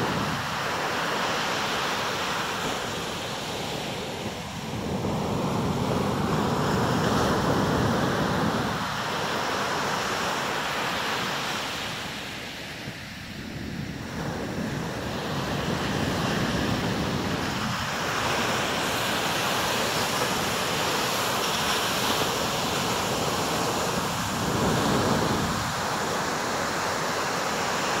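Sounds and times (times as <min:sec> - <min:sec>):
waves washing up a beach: 0:00.0 - 0:28.0.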